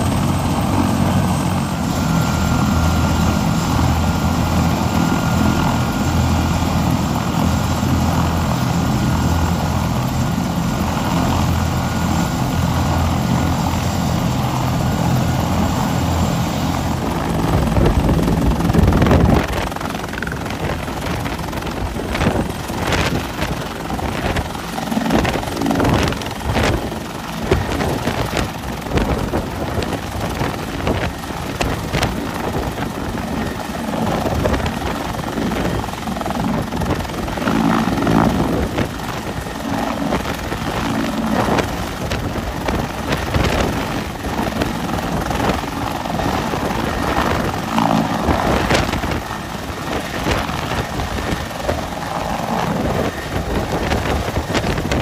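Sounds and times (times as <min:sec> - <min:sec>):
helicopter rotor beating: 0:00.0 - 0:55.0
turbine and rotor-wash noise: 0:00.0 - 0:55.0.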